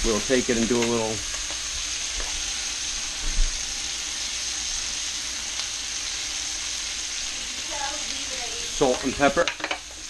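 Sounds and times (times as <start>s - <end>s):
meat sizzling in a skillet: 0.0s - 10.0s.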